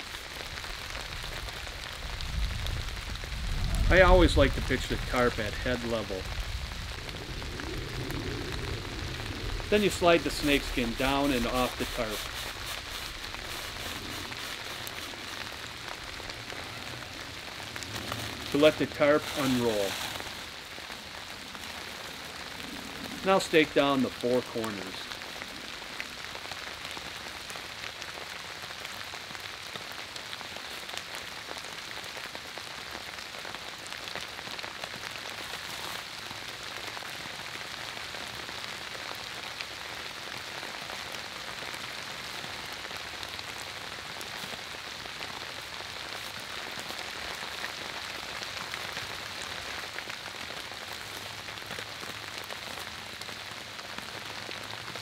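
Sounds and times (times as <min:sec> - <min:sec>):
steady rain with ticking drops: 0:00.0 - 0:55.0.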